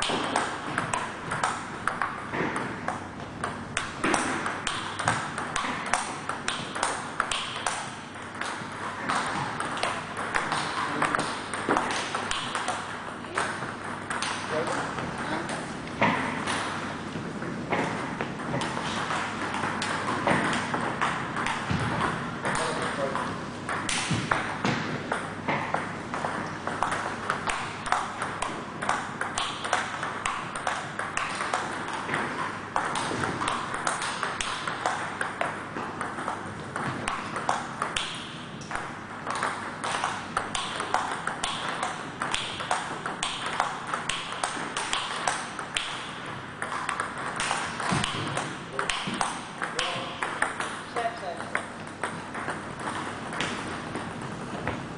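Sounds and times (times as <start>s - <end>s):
table tennis ball clicks: 0.0s - 14.4s, 18.4s - 50.8s.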